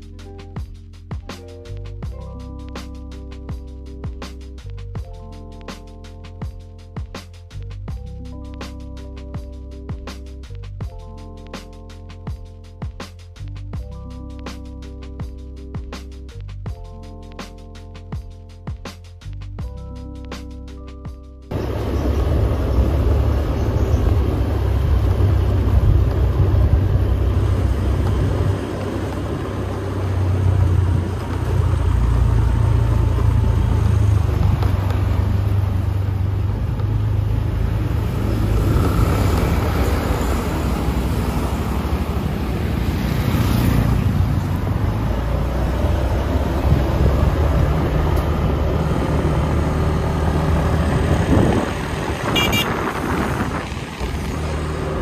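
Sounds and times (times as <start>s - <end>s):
surrounding traffic: 0.0s - 55.0s
vehicle road rumble: 0.0s - 55.0s.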